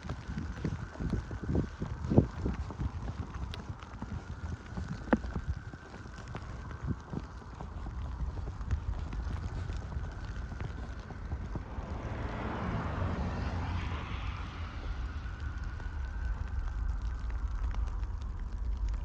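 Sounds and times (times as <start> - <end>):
wind rumble on microphone: 0.0 - 19.0
vehicle tyre hiss on snow: 0.4 - 16.8.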